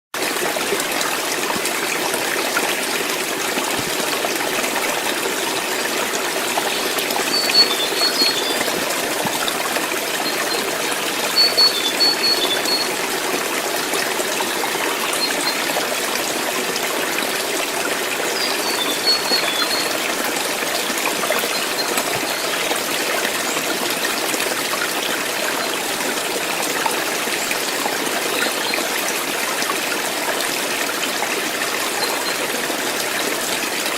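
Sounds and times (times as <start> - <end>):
water stream rushing: 0.2 - 33.9.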